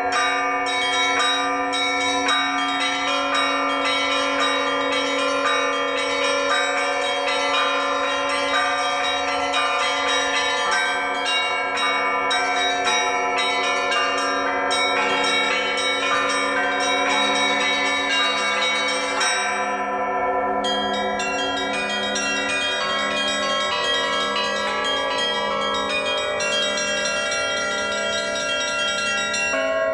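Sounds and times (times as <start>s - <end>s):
large bells ringing: 0.0s - 29.9s
small bells chiming quickly: 0.0s - 29.9s.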